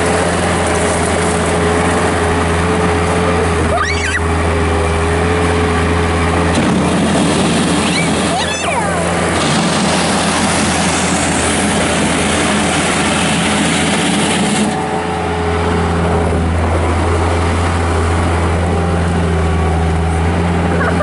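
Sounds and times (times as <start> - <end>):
diesel engine running hard: 0.0 - 21.0
steady low drone: 0.0 - 21.0.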